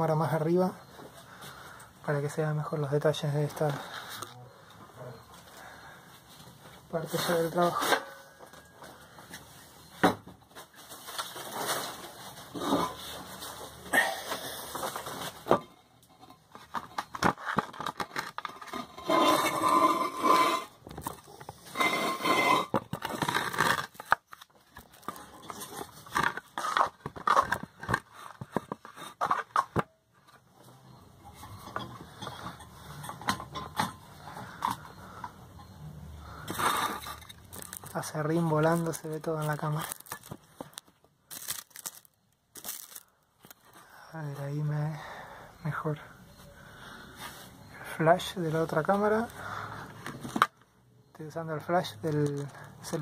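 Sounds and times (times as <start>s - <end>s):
objects scraping and rustling: 0.3s - 50.6s, 51.6s - 53.0s.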